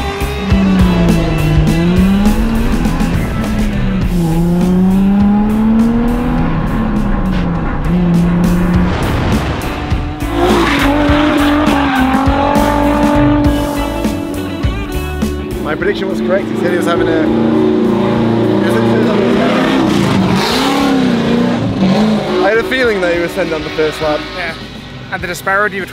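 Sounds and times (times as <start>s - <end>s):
car engine revving: 0.0s - 25.2s
background music: 0.0s - 25.9s.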